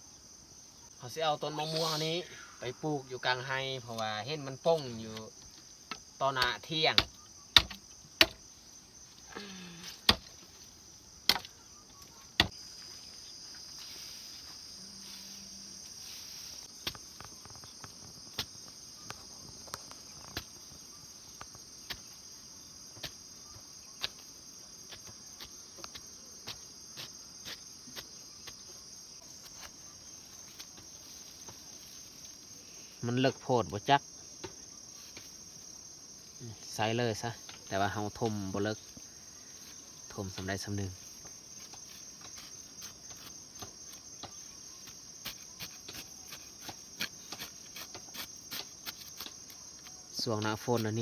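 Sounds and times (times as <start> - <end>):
crickets and insects chirring: 0.0 - 51.0.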